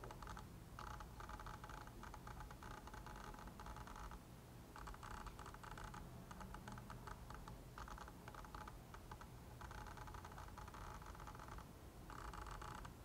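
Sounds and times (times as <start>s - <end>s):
rapid clicks: 0.0s - 4.2s, 4.8s - 13.0s.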